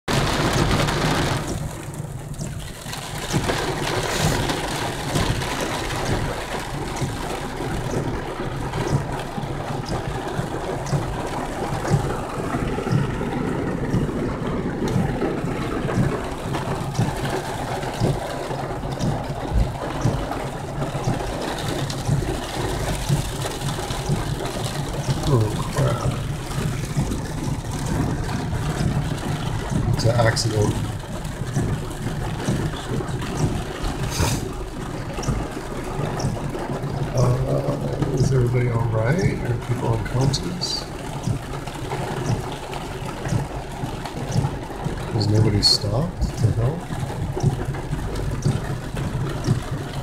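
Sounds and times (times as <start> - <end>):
engine and tyres on wet road: 0.0 - 50.0
torrential rain on car roof: 0.0 - 50.0.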